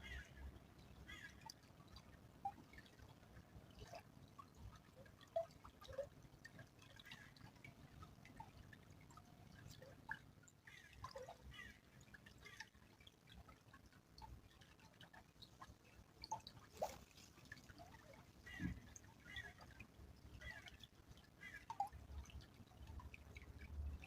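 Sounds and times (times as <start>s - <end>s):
small stream trickling: 0.0s - 24.0s
water plinks: 0.0s - 24.0s.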